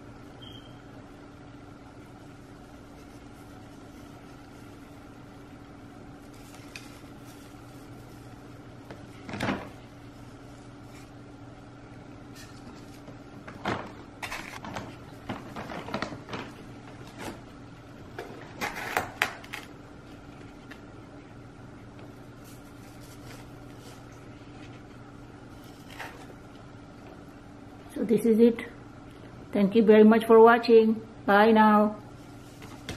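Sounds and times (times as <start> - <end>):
electrical hum: 0.0 - 32.9.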